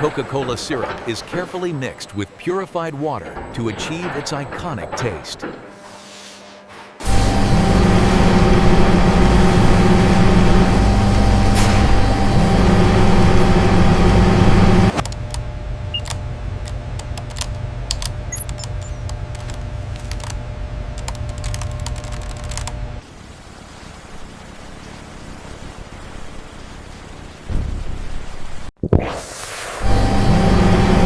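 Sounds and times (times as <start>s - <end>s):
factory machinery hum: 0.0s - 28.7s, 29.6s - 31.0s.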